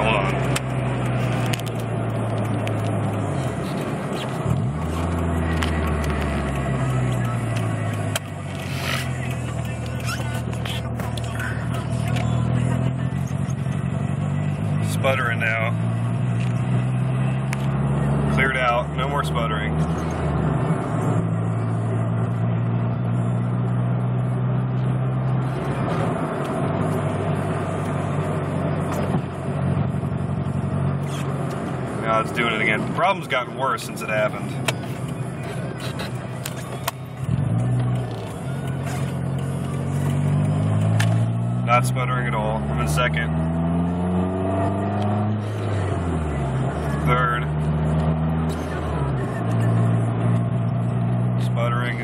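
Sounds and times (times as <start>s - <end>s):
car engine droning: 0.0s - 52.0s.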